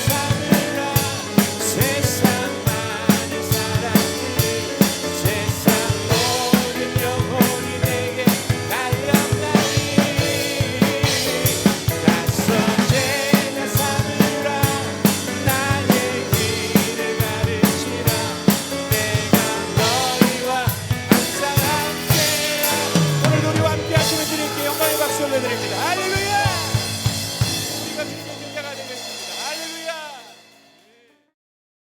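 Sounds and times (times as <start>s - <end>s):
acoustic drum kit groove: 0.0s - 30.9s
worship band music: 0.0s - 31.2s.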